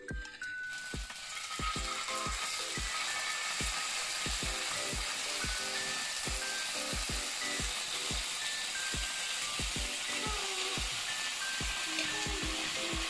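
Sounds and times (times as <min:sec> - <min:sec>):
background music with drum beat: 0:00.0 - 0:00.4, 0:01.0 - 0:11.0, 0:11.6 - 0:13.0
meat sizzling in grill pan: 0:00.6 - 0:13.0.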